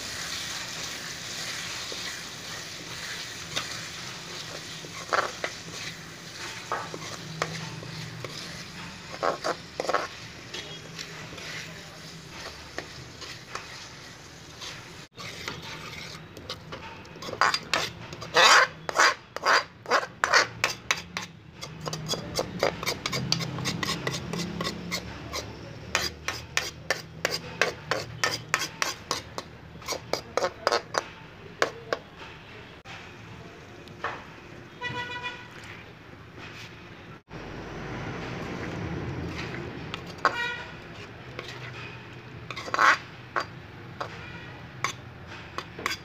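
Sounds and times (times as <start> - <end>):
metal spatula scraping a pan: 0.2 - 32.9, 39.2 - 46.0.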